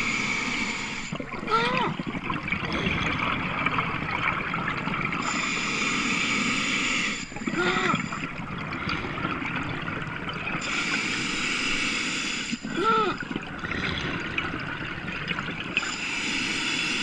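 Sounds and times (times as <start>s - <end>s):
underwater hiss and crackle: 0.0s - 17.0s.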